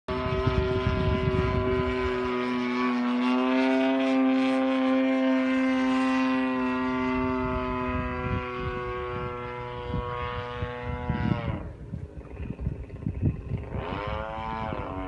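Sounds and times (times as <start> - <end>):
model airplane engine and propeller: 0.1 - 15.0
wind buffeting microphone: 0.1 - 15.0.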